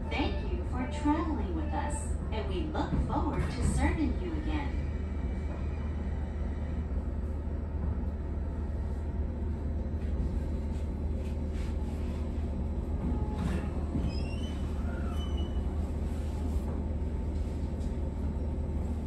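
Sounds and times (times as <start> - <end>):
train wheels rumbling on track: 0.7 - 19.0.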